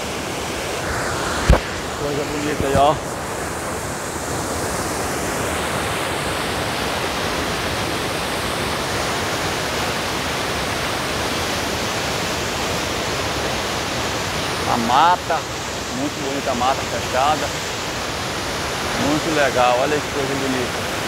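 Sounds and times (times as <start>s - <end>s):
white water rushing over rocks: 0.0s - 21.0s.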